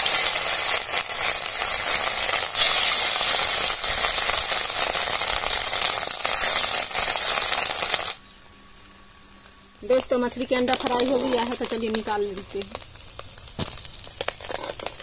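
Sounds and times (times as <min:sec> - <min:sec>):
crackles and pops: 0:00.0 - 0:15.0
fish roe frying in oil: 0:00.0 - 0:15.0.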